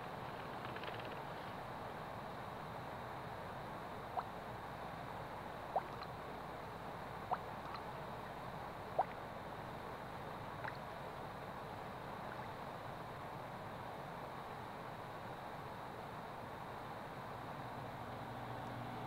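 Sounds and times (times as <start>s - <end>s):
soft ambient hiss: 0.0s - 19.0s.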